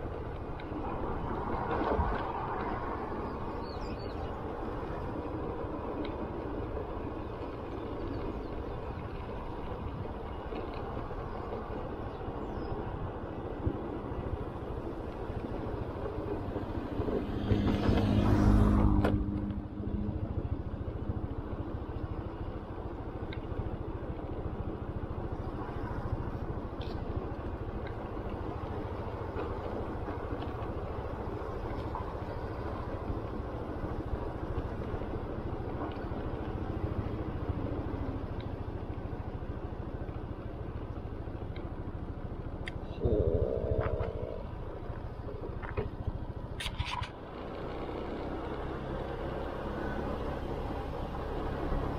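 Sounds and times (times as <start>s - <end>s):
road noise: 0.0s - 51.9s.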